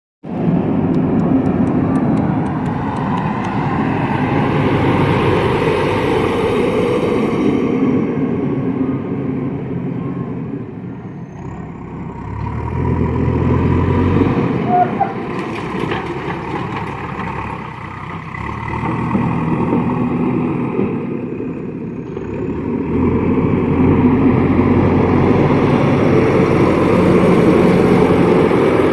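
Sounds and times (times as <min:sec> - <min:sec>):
digger diesel engine running: 0:00.4 - 0:28.9.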